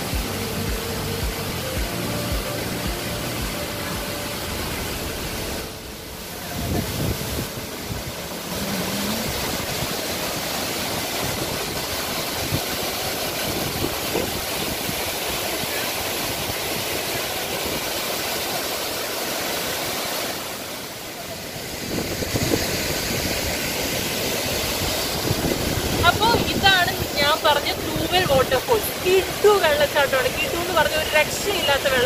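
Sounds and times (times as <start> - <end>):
waterfall roaring onto rock: 0.0 - 32.0.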